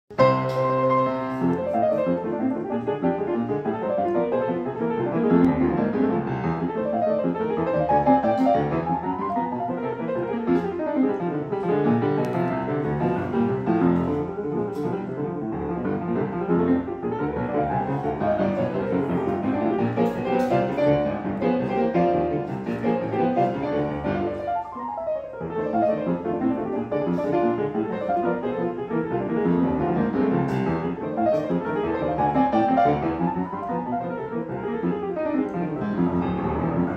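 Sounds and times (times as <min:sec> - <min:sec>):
grand piano playing: 0:00.1 - 0:36.9.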